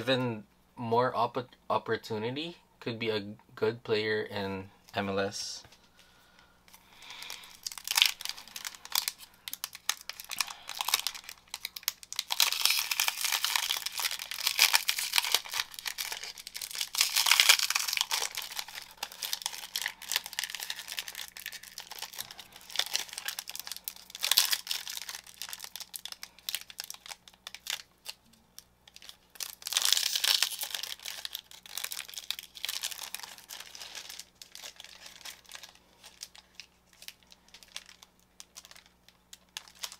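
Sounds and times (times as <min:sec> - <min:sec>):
foil wrapper tearing and crinkling: 0:07.0 - 0:39.9.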